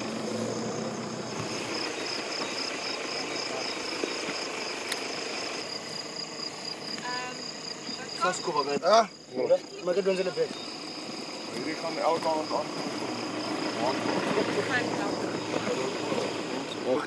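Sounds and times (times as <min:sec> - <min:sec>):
crickets chirping: 0:00.0 - 0:17.0
low engine hum: 0:00.0 - 0:17.0.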